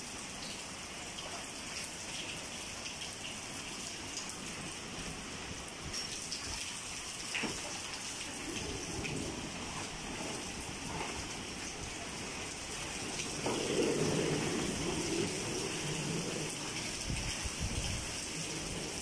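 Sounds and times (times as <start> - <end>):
rain falling onto floodwater: 0.0 - 19.0.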